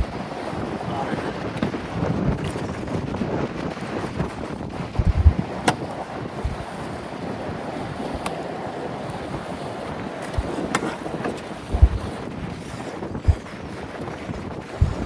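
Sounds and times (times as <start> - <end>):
choppy river water: 0.0 - 15.0
rushing wind: 0.0 - 15.0
wind buffeting microphone: 0.0 - 15.0.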